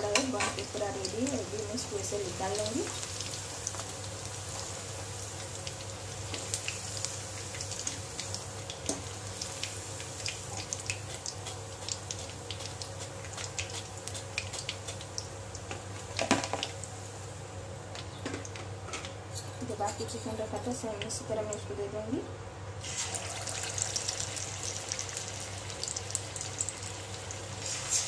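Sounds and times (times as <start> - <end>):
food sizzling in hot oil: 0.0 - 17.5, 22.8 - 28.0.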